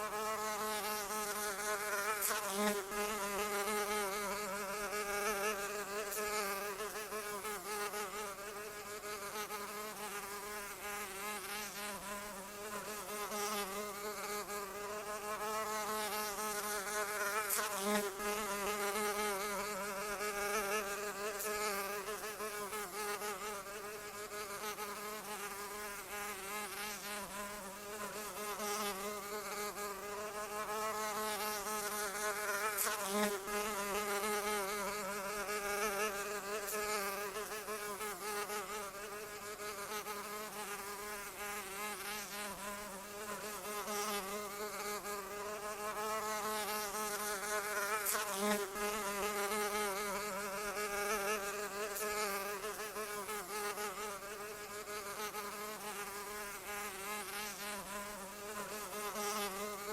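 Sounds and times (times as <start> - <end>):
flying insect buzzing: 0.0 - 59.9.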